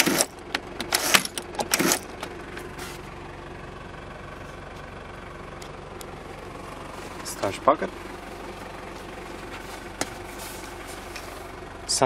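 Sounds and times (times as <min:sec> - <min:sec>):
engine idling inside cabin: 0:00.0 - 0:12.0.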